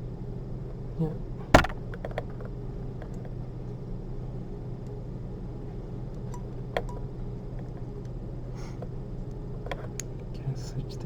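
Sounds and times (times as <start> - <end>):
low hum of room noise: 0.0 - 11.0.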